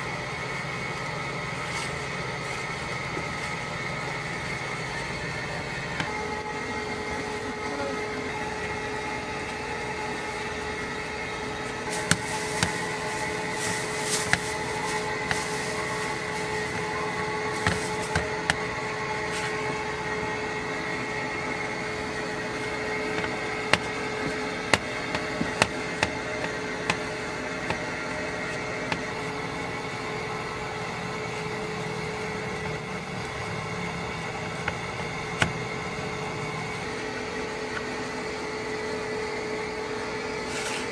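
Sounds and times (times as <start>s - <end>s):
kitchen machinery humming: 0.0s - 40.9s.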